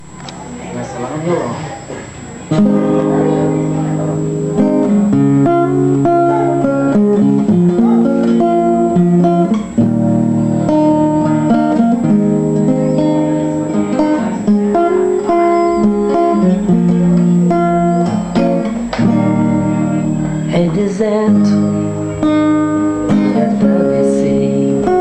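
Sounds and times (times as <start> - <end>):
acoustic guitar chords: 2.4 - 25.0.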